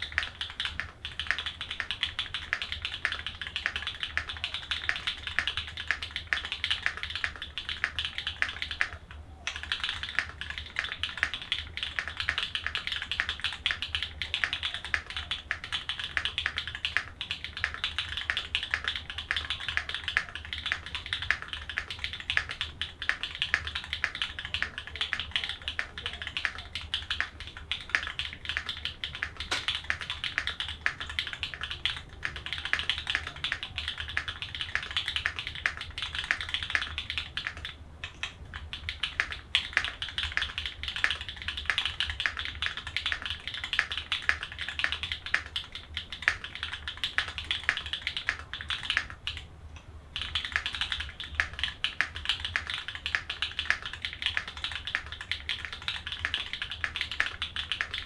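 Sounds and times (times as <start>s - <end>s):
fast mechanical keyboard typing: 0.0s - 49.5s, 50.2s - 58.0s.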